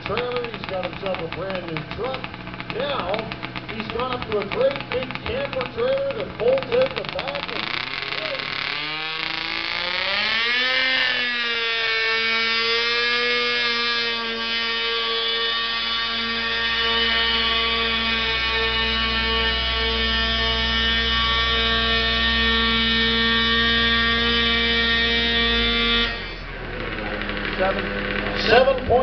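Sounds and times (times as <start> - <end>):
low rumble: 0.0 - 29.0
tractor engine at full throttle: 0.0 - 29.0.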